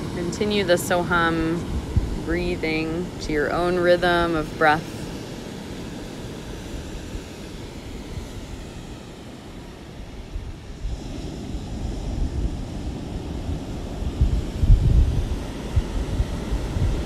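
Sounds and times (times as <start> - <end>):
ocean waves washing on shore: 0.0 - 17.0.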